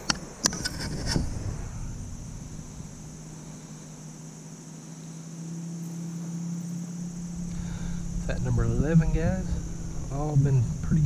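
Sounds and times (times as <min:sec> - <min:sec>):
crickets chirring: 0:00.0 - 0:11.0
faint low hum: 0:00.0 - 0:11.0.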